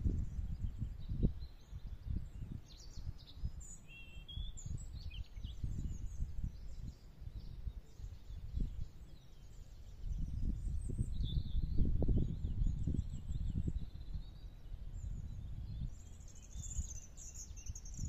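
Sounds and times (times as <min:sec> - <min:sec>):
small birds chirping: 0:00.0 - 0:18.0
wind buffeting microphone: 0:00.0 - 0:18.0.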